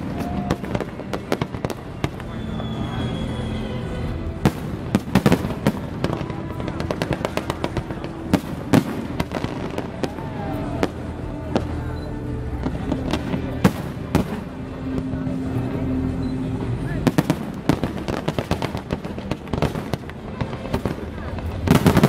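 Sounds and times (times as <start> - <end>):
fireworks bangs and crackles: 0.0 - 16.0, 16.6 - 22.0
music playing: 0.0 - 22.0.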